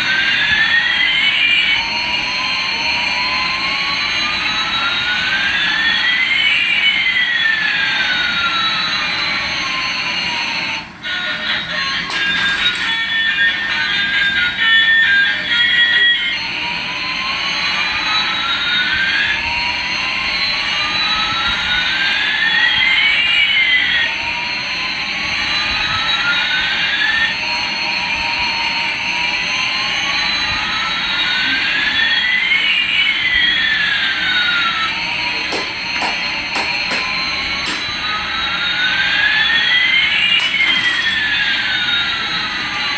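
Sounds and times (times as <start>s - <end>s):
toy jet engine sound effect: 0.0s - 42.9s.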